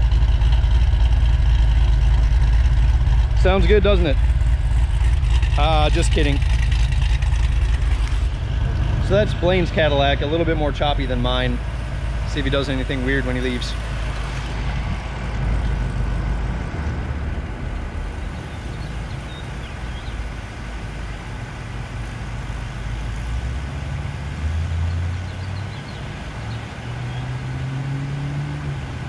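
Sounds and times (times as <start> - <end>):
car engine idling choppily: 0.0 - 26.8.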